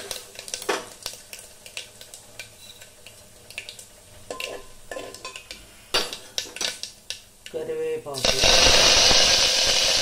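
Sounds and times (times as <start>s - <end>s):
seeds sizzling in hot oil: 0.0s - 7.5s, 8.1s - 10.0s.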